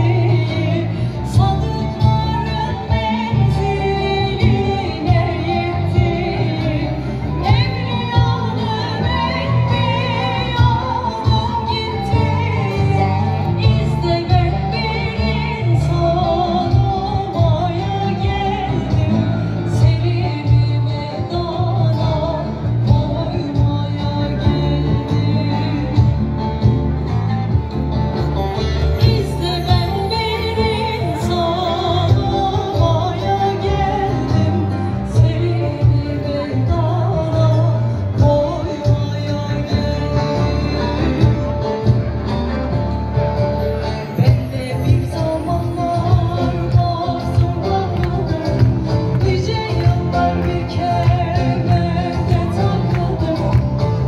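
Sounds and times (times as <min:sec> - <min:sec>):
woman singing: 0:00.0 - 0:27.5, 0:28.3 - 0:42.1, 0:43.8 - 0:54.0
heavy bass: 0:00.0 - 0:54.0
live music over loudspeakers: 0:00.0 - 0:54.0
plucked string instrument: 0:00.0 - 0:54.0.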